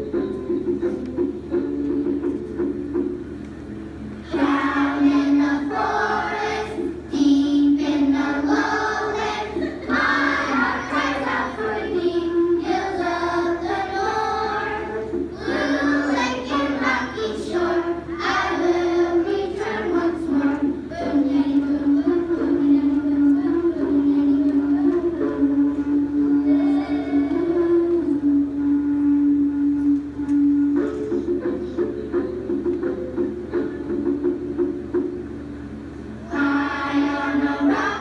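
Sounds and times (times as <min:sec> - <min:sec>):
young children singing: 0:04.2 - 0:34.0, 0:36.2 - 0:38.0.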